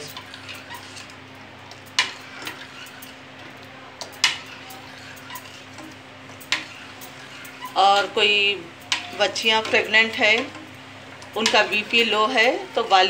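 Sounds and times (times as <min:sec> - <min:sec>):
ladle scraping and tapping pan: 0:00.0 - 0:12.2
steady low hum: 0:00.0 - 0:13.0.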